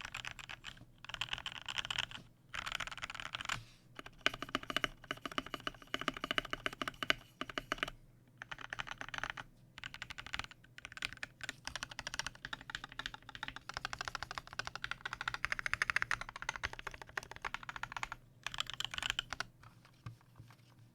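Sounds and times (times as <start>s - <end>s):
fast typing on mechanical keyboard: 0.0s - 19.5s.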